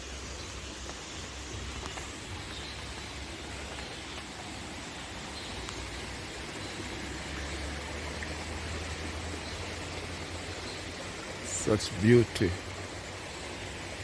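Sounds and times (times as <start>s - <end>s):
small stream rushing: 0.0s - 14.0s.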